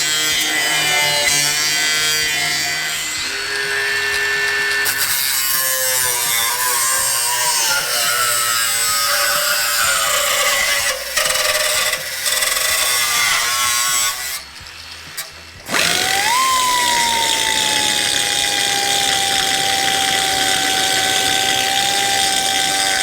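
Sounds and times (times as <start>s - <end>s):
power tool whining on sheet metal: 0.0s - 23.0s.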